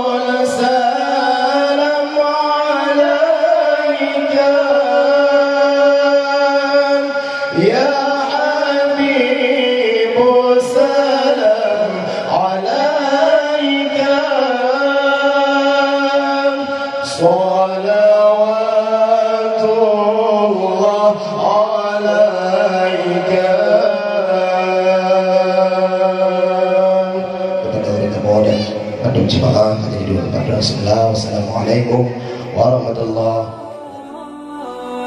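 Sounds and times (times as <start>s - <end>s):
two men singing through microphones: 0.0s - 35.0s.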